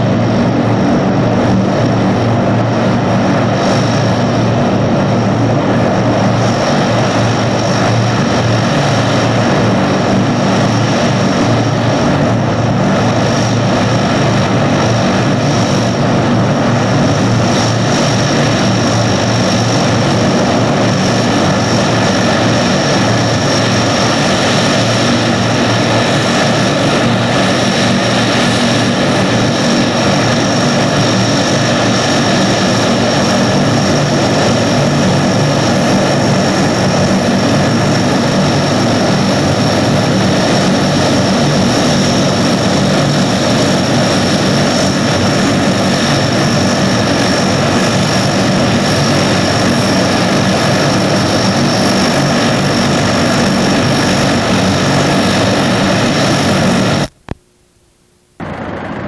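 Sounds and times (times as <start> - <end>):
propeller drone: 0.0 - 59.0
turbine whine: 0.0 - 59.0.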